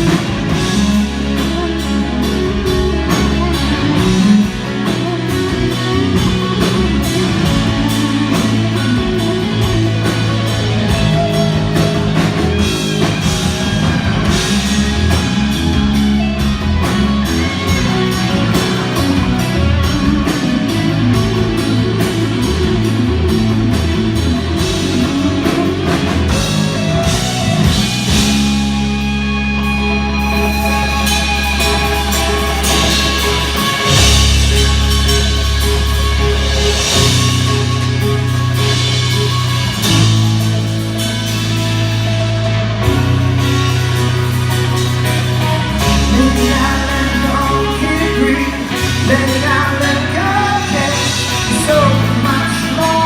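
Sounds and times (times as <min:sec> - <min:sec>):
bass guitar: 0:00.0 - 0:53.0
drum kit: 0:00.0 - 0:53.0
electric guitar: 0:00.0 - 0:53.0.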